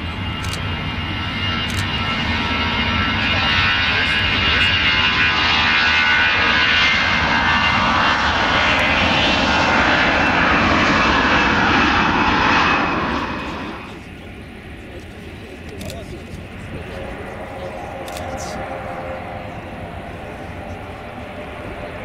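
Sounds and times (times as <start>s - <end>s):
jet engines at taxi thrust: 0.0s - 22.0s.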